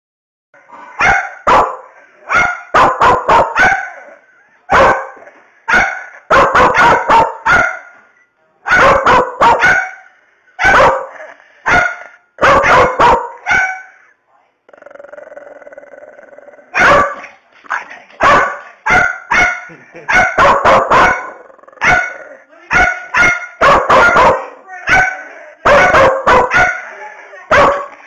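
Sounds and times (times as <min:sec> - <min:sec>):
dog barking angrily: 0:00.9 - 0:07.9, 0:08.7 - 0:14.0, 0:16.8 - 0:26.9, 0:27.5 - 0:28.0.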